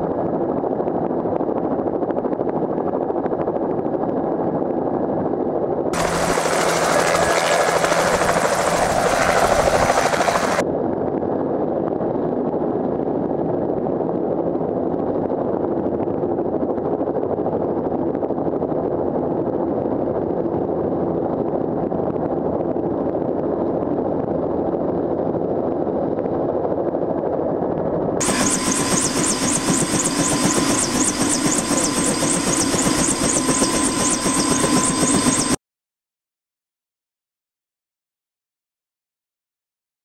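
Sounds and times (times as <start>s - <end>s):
helicopter turbine and rotors: 0.0s - 35.6s.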